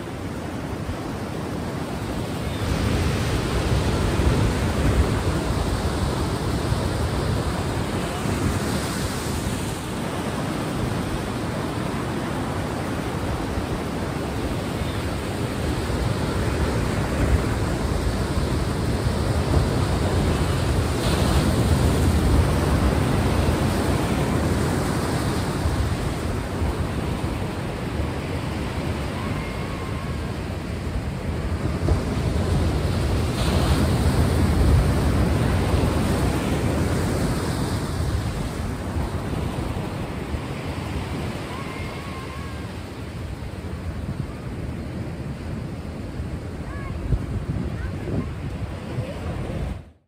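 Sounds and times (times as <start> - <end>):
ocean waves washing ashore: 0.0 - 50.0.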